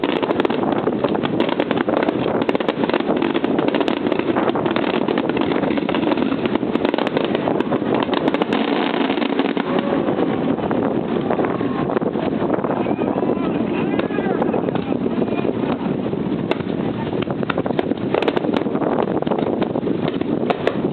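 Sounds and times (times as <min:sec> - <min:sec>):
small fireworks crackling: 0:00.0 - 0:20.9.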